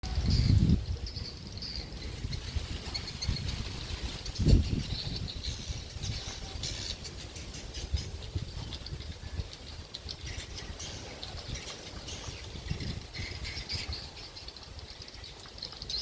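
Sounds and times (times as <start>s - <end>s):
faint high chirping: 0.1s - 16.0s.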